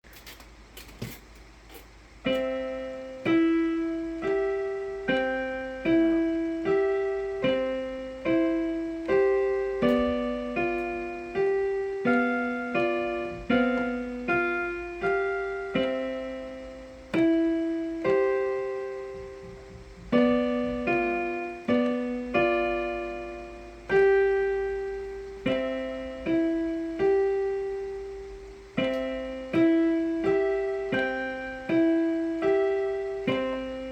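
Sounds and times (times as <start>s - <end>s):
piano arpeggios played slowly: 2.2s - 33.9s.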